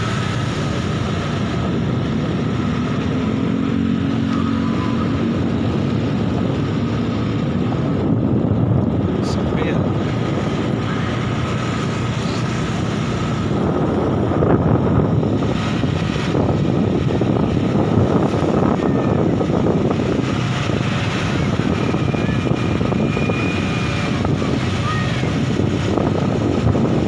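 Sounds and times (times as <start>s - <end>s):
motorbike engine: 0.0s - 27.0s
road noise: 0.0s - 27.0s
wind buffeting microphone: 0.0s - 27.0s.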